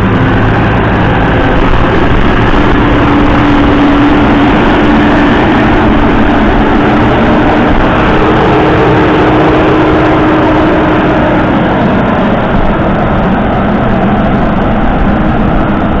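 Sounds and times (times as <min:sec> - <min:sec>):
diesel engine running: 0:00.0 - 0:16.0
steady whine: 0:00.0 - 0:16.0.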